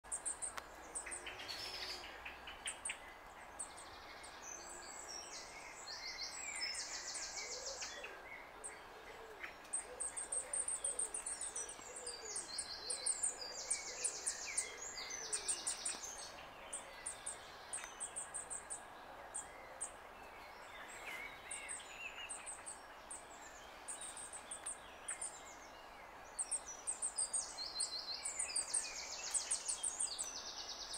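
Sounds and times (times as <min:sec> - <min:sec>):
small birds singing high trills: 0:00.1 - 0:30.9.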